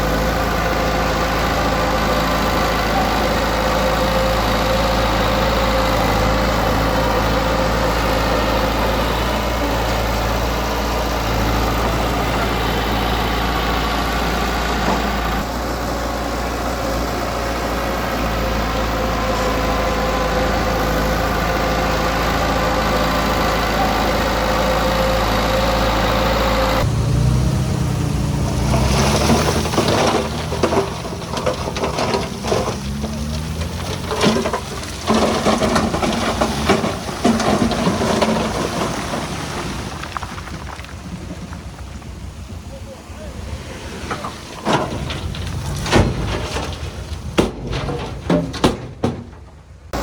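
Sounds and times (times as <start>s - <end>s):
heavy machinery diesel engine running: 0.0s - 50.0s.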